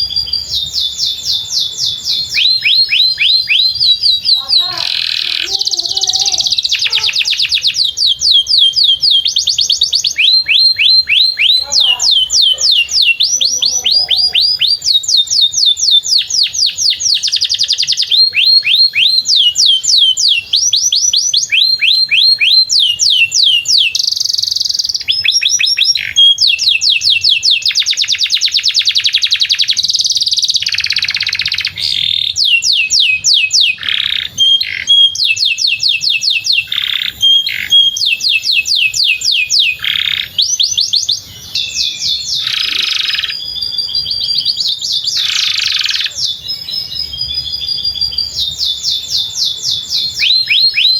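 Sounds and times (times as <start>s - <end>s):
canary singing: 0.0s - 50.9s.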